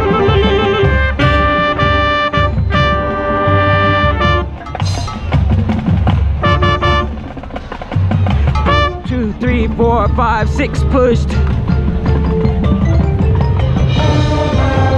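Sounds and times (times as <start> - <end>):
drums: 0.0 - 14.9
marching band brass chords: 0.0 - 14.9.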